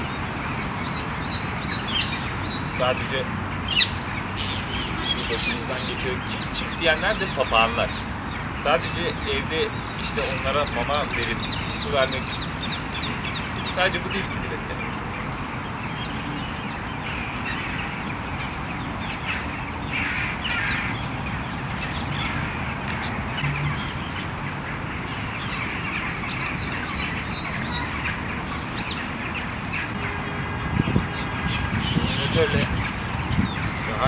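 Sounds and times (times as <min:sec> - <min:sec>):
harsh bird calls: 0:00.0 - 0:34.0
outdoor background hiss: 0:00.0 - 0:34.0.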